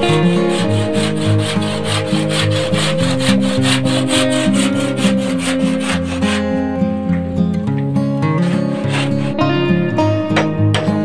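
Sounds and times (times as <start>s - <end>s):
handsaw cutting wood: 0.0s - 7.4s, 8.2s - 9.7s
guitar music: 0.0s - 11.0s.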